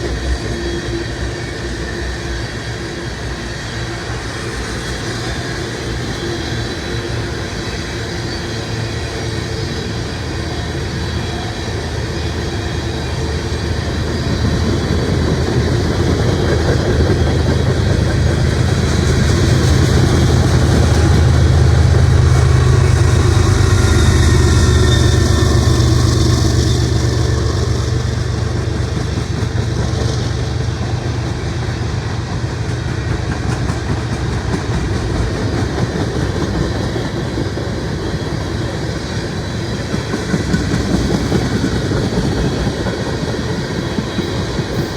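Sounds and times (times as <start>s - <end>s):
train low drone: 0.0s - 44.9s
train wheels clacking on rail joints: 7.5s - 44.9s.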